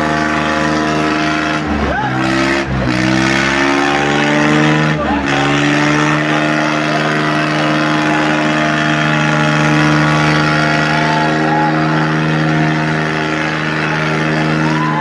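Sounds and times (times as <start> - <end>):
tractor diesel engine running: 0.0 - 15.0
faint voices: 1.0 - 15.0.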